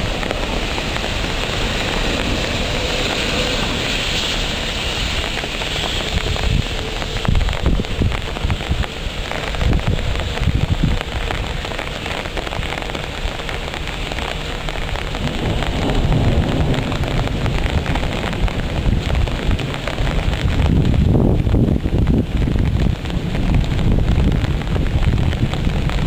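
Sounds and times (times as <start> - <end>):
heavy rain pouring: 0.0 - 26.0
low thunder rumble: 0.0 - 26.0.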